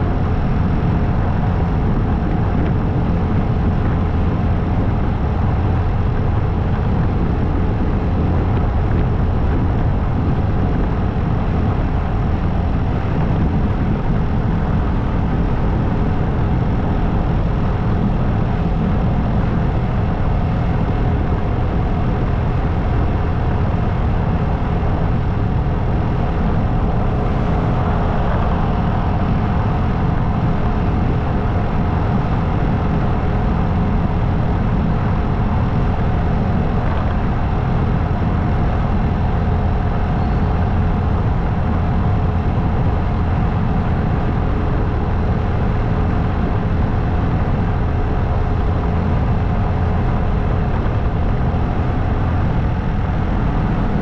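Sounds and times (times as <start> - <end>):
motorcycle engine cruising: 0.0 - 54.0
road noise: 0.0 - 54.0
wind noise: 0.0 - 54.0.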